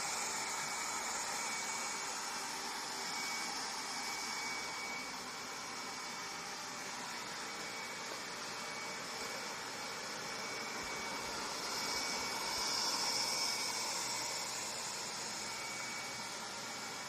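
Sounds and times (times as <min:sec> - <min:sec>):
faint high whine: 0:00.0 - 0:17.0
robot vacuum cleaner whirring: 0:00.0 - 0:17.0.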